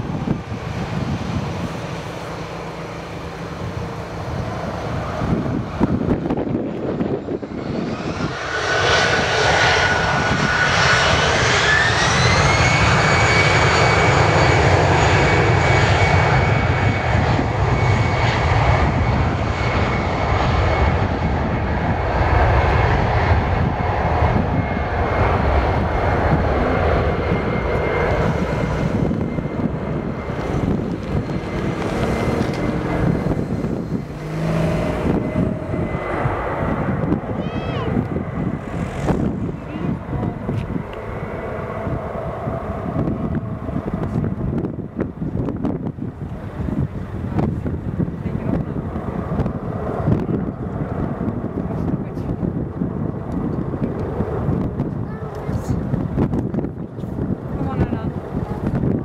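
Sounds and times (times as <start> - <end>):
continuous rumble: 0.0 - 59.0
jet engines spooling up: 0.0 - 59.0
rising engine whine: 0.0 - 59.0.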